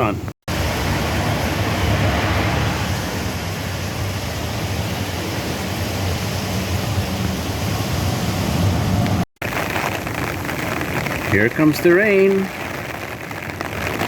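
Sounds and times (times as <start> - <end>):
gusty wind on microphone: 0.5 - 14.0.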